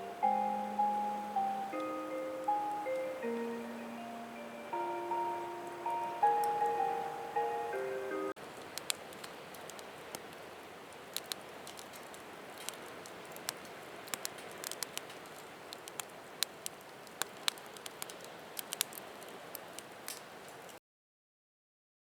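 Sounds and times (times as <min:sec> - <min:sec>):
wood fire crackling: 0:00.0 - 0:20.8.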